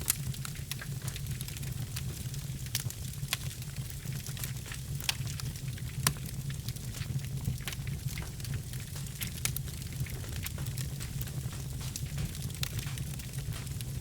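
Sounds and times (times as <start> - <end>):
logs crackling and popping: 0.0 - 14.0
low rumble of flames: 0.0 - 14.0.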